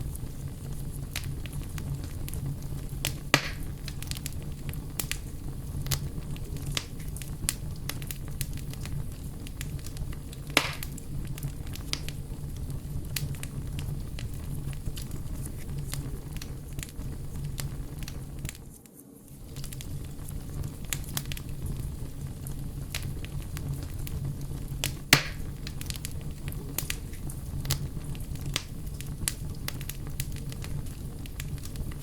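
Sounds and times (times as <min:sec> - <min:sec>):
steady low rumble: 0:00.0 - 0:18.7, 0:19.3 - 0:32.0
campfire crackling: 0:00.0 - 0:32.0
loud fire snaps: 0:00.0 - 0:32.0.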